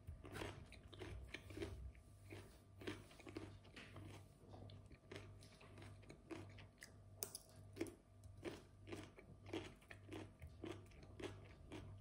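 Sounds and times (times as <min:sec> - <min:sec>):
chewing crunchy food: 0:00.0 - 0:12.0.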